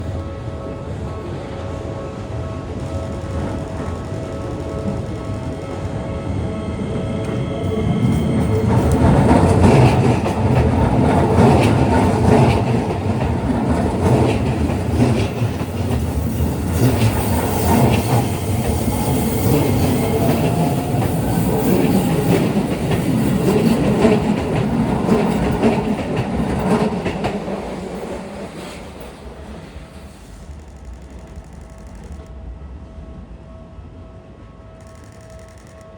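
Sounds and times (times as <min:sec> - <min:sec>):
electric train rumbling: 0:00.0 - 0:35.9.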